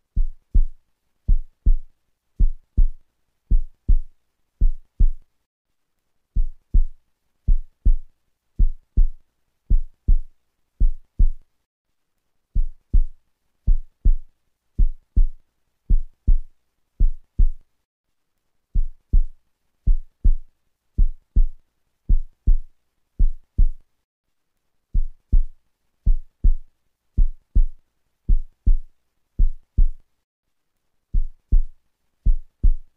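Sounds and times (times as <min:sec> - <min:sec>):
heartbeat-like low thumps: 0:00.2 - 0:05.2, 0:06.4 - 0:11.4, 0:12.6 - 0:17.6, 0:18.8 - 0:23.8, 0:25.0 - 0:26.6, 0:27.2 - 0:30.0, 0:31.1 - 0:32.9.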